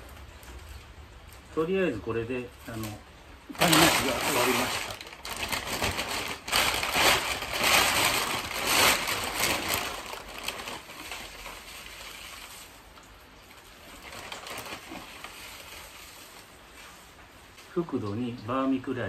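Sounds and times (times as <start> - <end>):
plastic bag rustling: 2.5 - 17.8.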